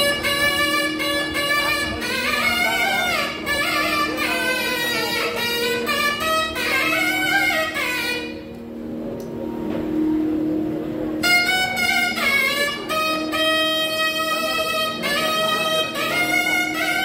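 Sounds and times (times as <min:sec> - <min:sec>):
double-reed wind instrument melody: 0:00.0 - 0:17.0
steady drone: 0:00.0 - 0:17.0.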